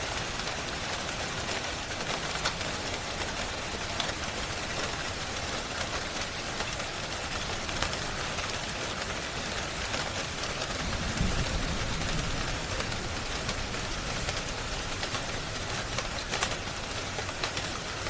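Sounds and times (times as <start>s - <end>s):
steady rain falling: 0.0s - 18.0s
wood fire crackling: 3.4s - 18.0s.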